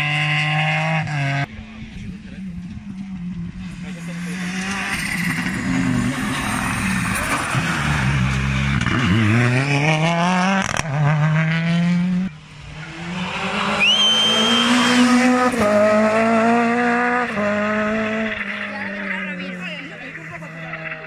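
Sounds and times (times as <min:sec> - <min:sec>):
rally car engine revving: 0:00.0 - 0:21.0
second rally car approaching: 0:00.0 - 0:21.0.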